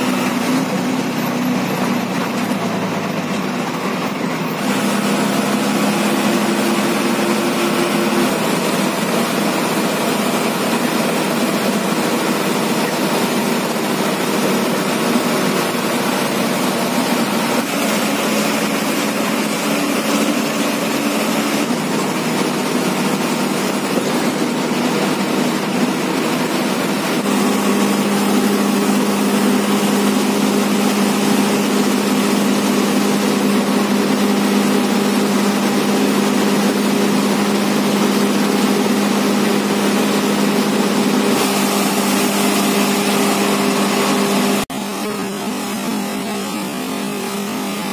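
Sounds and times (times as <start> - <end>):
bus diesel engine drone: 0.0 - 47.9
road noise: 0.0 - 47.9.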